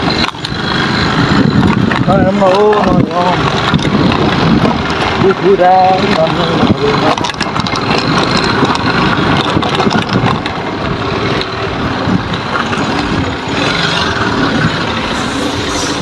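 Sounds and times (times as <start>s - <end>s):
bike rattling over gravel: 0.0s - 16.0s
wind on microphone: 0.0s - 16.0s.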